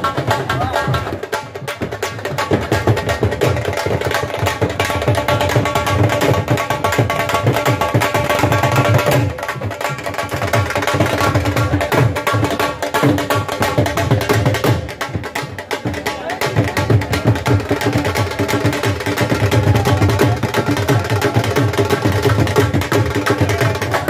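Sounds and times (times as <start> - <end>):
barrel drums playing fast rhythm: 0.0 - 24.0.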